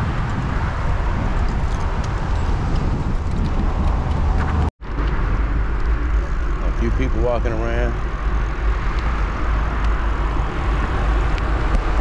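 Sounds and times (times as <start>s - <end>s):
car traffic: 0.0s - 12.0s
wind on microphone: 0.0s - 12.0s.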